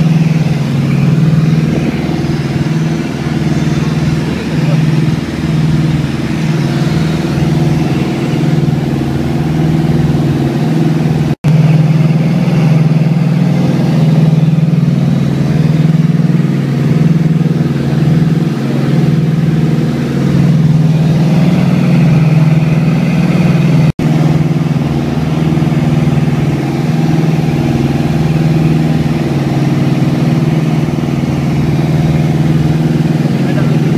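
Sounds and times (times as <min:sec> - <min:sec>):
twin piston engines droning: 0:00.0 - 0:33.9.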